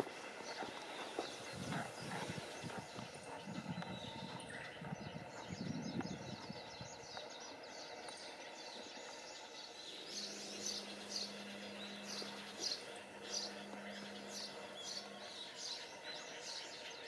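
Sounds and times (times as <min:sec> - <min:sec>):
faint outdoor background noise: 0:00.0 - 0:17.0
small birds chirping: 0:00.0 - 0:17.0
steady low hum: 0:00.0 - 0:17.0.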